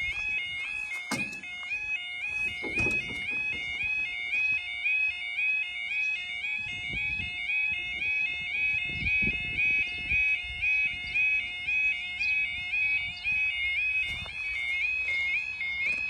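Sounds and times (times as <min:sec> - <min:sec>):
level crossing warning alarm: 0:00.0 - 0:16.0.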